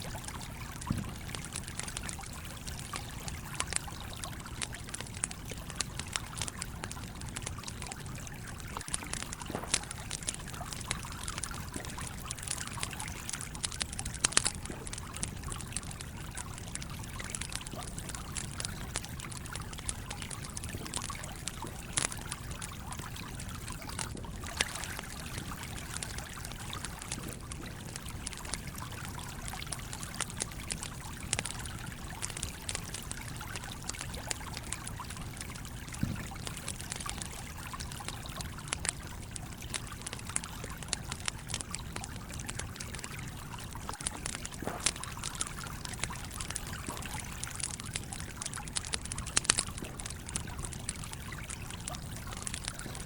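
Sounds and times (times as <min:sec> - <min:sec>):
stream flowing: 0:00.0 - 0:33.8, 0:34.5 - 0:53.0
campfire crackling: 0:00.0 - 0:53.0.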